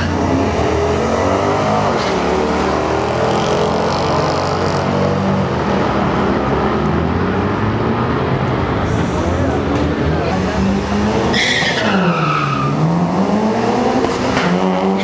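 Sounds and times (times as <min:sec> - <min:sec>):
drag racing car engines revving: 0:00.0 - 0:15.0.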